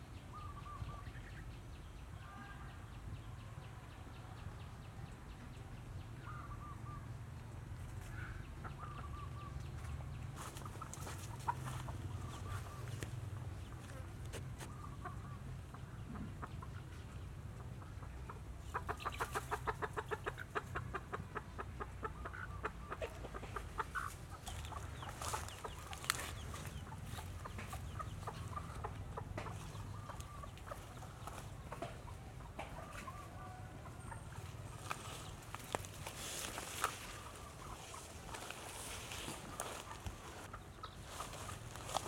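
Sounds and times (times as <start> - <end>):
chickens clucking: 6.2 - 42.0.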